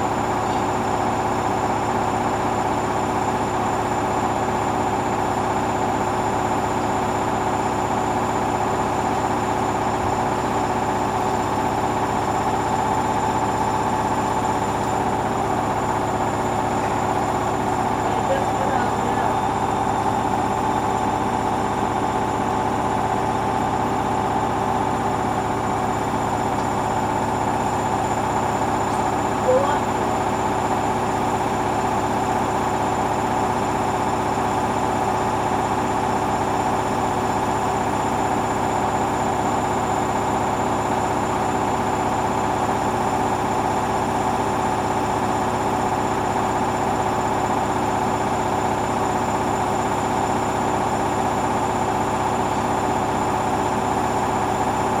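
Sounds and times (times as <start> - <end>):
washing machine spin whine: 0.0 - 55.0.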